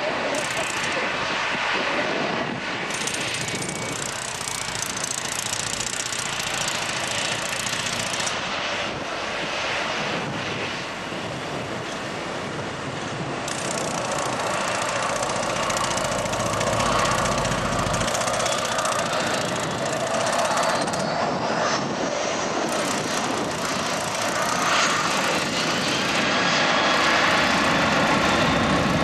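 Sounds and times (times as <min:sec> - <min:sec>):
jet engines rushing and whining: 0:00.0 - 0:29.0.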